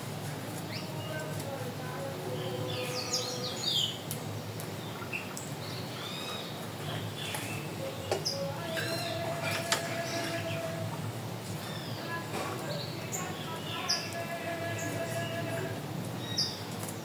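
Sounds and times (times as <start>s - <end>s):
wild birds chirping and calling: 2.2s - 4.0s, 4.7s - 16.7s.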